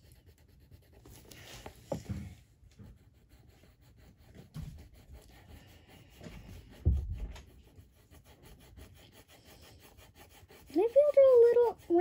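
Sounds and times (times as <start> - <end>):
crayon scratching on paper: 0.0 - 12.0.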